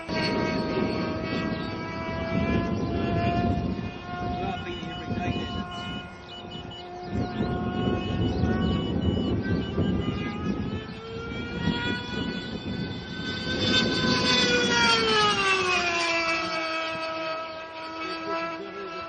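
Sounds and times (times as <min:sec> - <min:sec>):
model jet engine running at high revs: 0:00.0 - 0:19.0.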